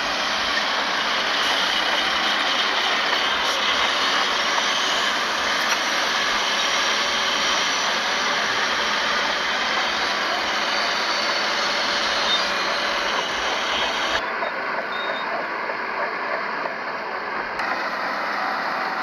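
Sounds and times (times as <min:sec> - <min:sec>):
diesel earthmoving machinery running: 0:00.0 - 0:19.0.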